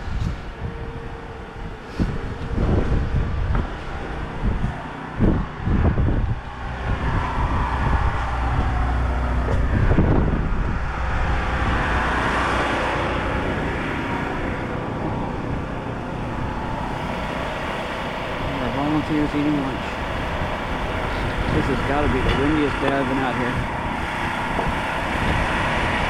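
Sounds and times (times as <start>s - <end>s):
low engine-like hum: 0.0s - 26.0s
wind buffeting microphone: 0.0s - 26.0s.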